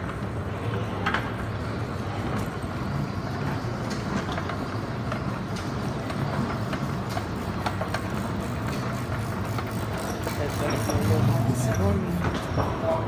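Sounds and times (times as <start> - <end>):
moving walkway hum and rumble: 0.0 - 13.0.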